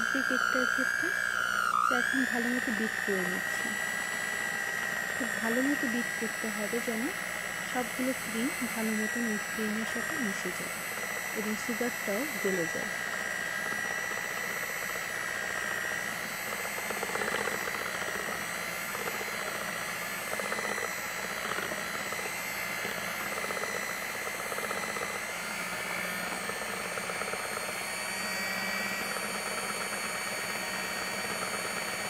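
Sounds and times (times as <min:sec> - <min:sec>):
electric hand mixer whine: 0:00.0 - 0:32.0.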